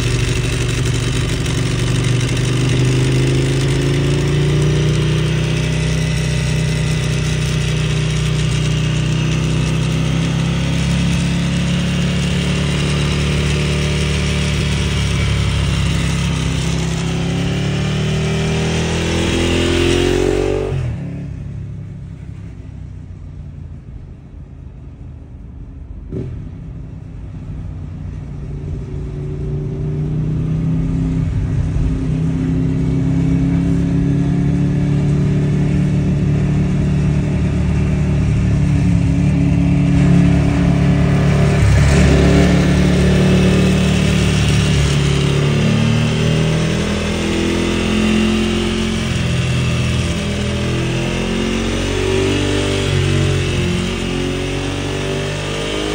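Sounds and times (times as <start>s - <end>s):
motorcycle engine revving: 0.0s - 22.6s, 26.1s - 26.8s, 27.6s - 55.9s.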